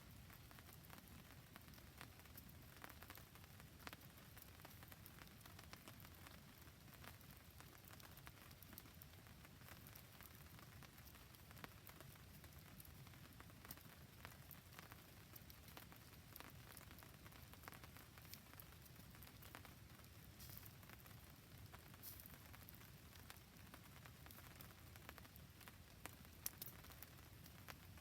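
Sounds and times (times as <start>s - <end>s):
campfire crackling: 0.0s - 28.0s
faint rain: 0.0s - 28.0s.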